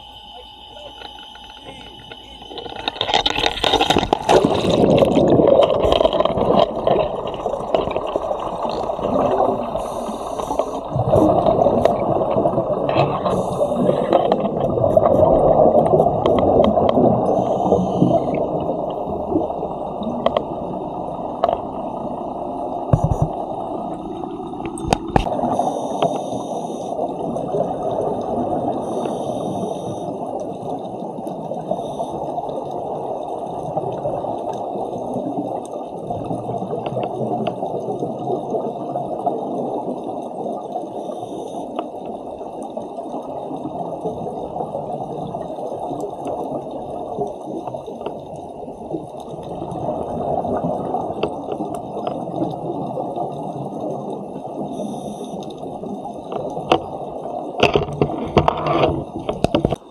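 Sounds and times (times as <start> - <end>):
muffled underwater water rush: 0.0 - 59.9
scuba bubbles: 0.0 - 59.9.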